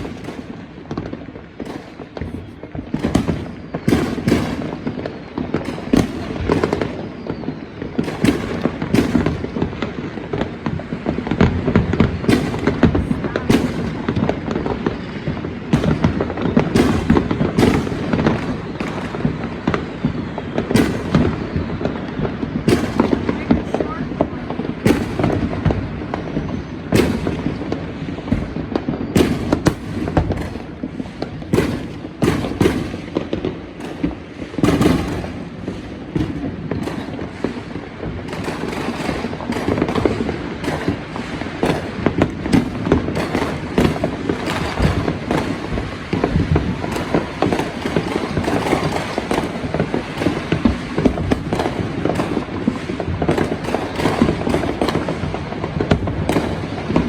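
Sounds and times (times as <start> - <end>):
fireworks and firecrackers banging: 0.0 - 57.0.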